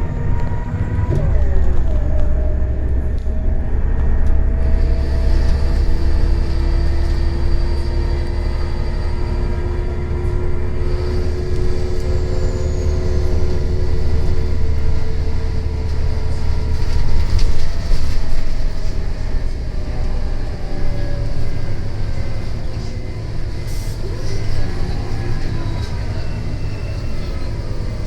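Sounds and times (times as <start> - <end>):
bus engine drone: 0.0 - 28.0.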